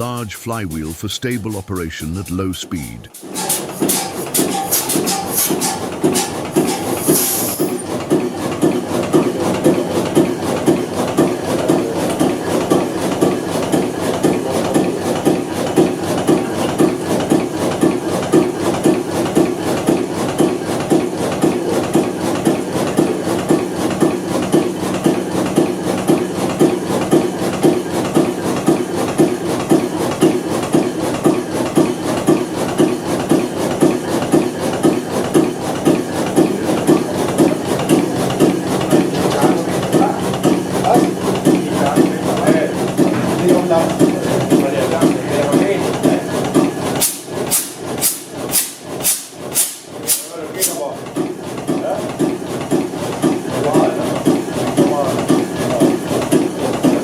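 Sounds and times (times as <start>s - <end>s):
stationary diesel engine running: 3.5s - 57.0s.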